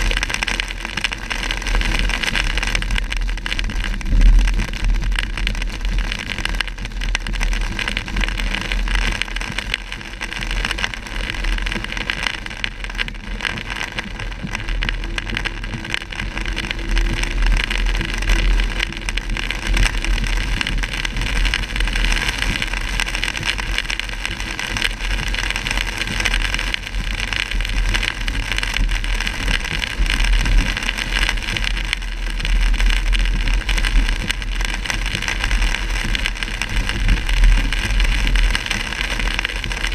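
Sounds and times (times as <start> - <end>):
rain and tyre spray: 0.0 - 39.9.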